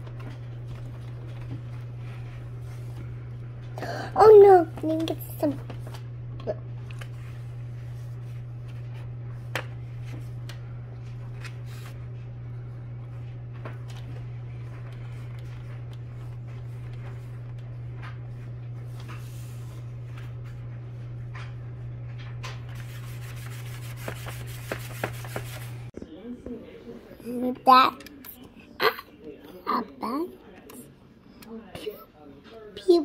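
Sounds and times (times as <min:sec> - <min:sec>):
steady low hum: 0:00.0 - 0:32.7.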